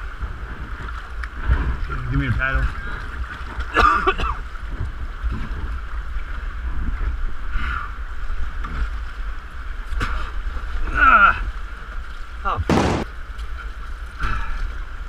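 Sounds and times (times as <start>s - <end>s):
wind rumbling on microphone: 0.0s - 3.8s, 4.4s - 15.0s.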